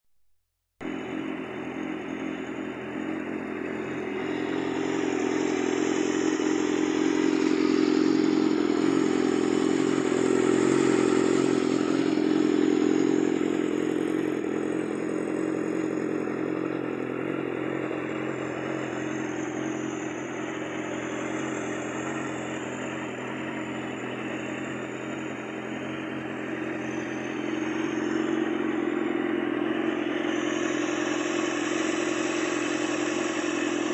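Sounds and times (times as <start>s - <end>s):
motorcycle engine running: 0.8s - 33.9s.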